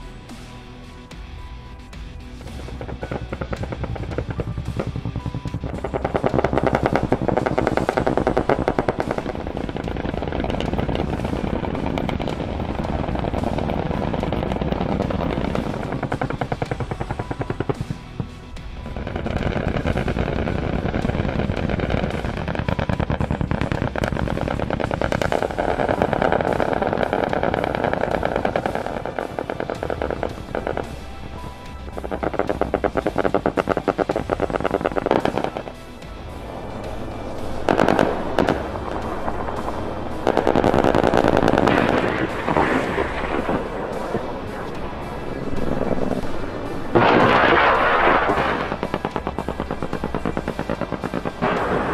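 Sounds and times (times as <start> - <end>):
background music: 0.0 - 51.9
rapid automatic cannon fire: 2.4 - 35.8, 36.6 - 46.2, 46.9 - 51.9.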